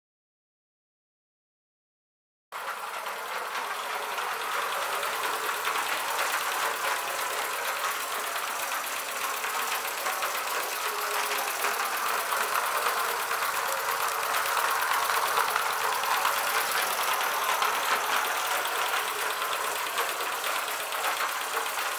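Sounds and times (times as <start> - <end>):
steam hiss: 2.6 - 21.9
steam locomotive exhaust beats: 2.6 - 21.9.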